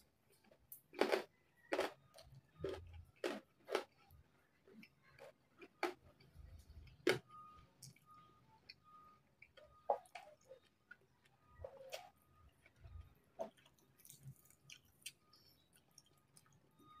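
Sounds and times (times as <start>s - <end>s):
crunchy food chewing: 0.0s - 17.0s.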